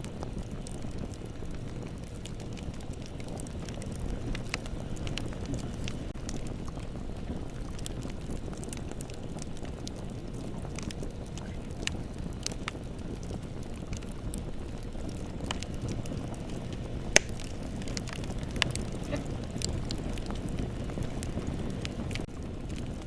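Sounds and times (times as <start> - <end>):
bonfire burning and crackling: 0.0 - 23.0.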